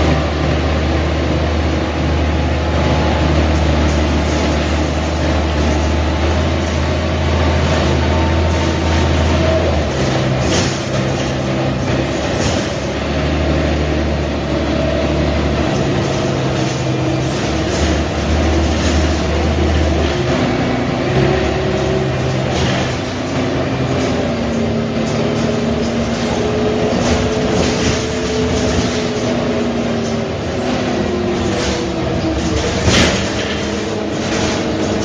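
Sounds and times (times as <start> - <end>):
bus diesel engine hum: 0.0 - 35.0
road and body noise: 2.8 - 35.0.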